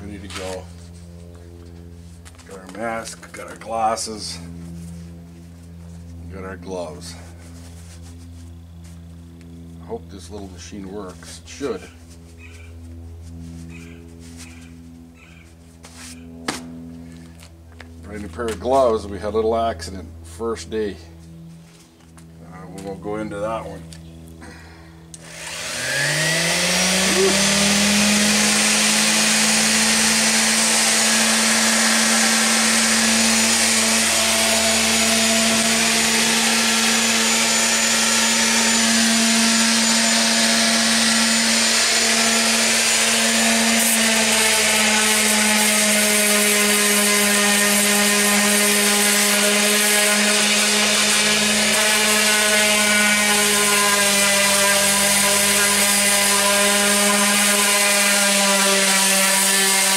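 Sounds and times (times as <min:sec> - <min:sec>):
electric sander on wood: 0:00.0 - 0:59.9.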